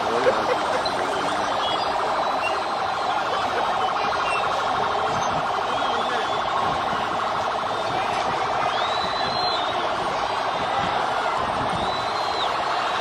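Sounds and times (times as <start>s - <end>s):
large crowd shouting: 0.0s - 13.0s.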